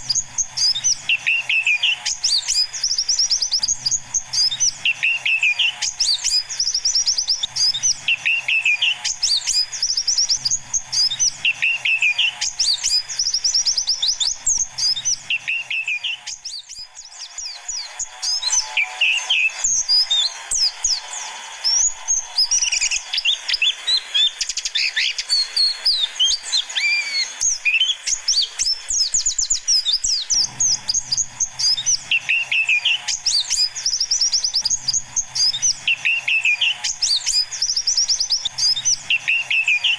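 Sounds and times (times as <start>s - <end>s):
lower bird call: 0.0s - 39.9s
small birds twittering: 0.0s - 39.9s.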